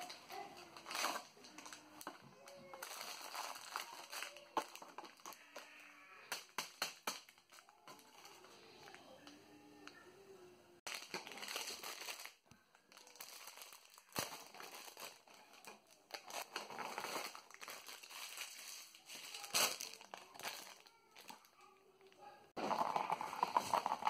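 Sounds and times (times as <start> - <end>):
plastic packets crinkling: 0.0 - 9.0, 10.8 - 21.7.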